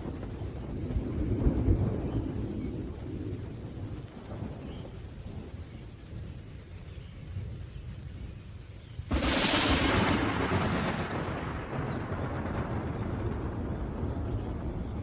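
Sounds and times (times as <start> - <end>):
rolling thunder: 0.0 - 6.3, 9.1 - 15.0
steady rain: 0.0 - 15.0.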